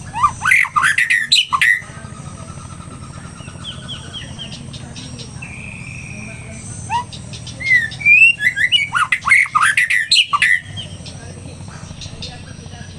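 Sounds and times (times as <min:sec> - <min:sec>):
bird singing varied whistles: 0:00.0 - 0:12.9.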